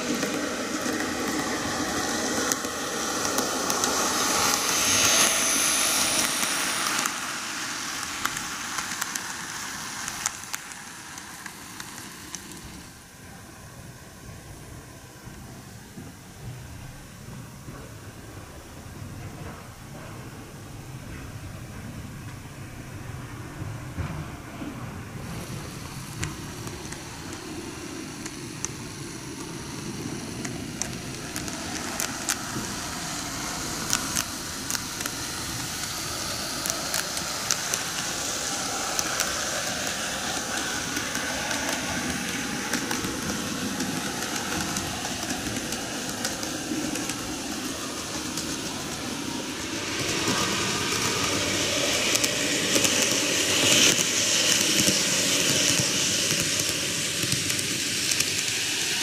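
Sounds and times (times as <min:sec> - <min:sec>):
model train motors whirring: 0:00.0 - 0:59.0.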